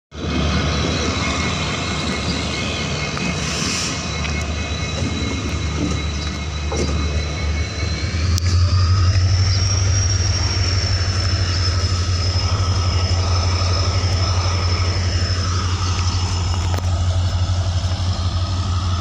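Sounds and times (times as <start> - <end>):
high engine whine: 0.1 - 19.0
locomotive diesel engine running: 0.1 - 19.0.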